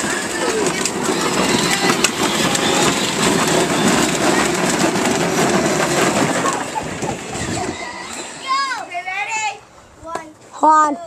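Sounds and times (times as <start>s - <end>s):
toy truck wheels rattling: 0.0s - 8.9s.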